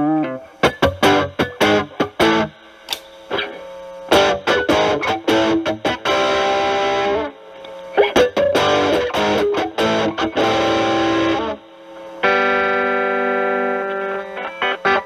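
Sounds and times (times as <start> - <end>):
electric guitar picked notes: 0.0 - 2.6, 3.3 - 15.0
guitar chord ringing: 0.0 - 2.6, 4.1 - 7.3, 8.0 - 11.6, 12.2 - 15.0.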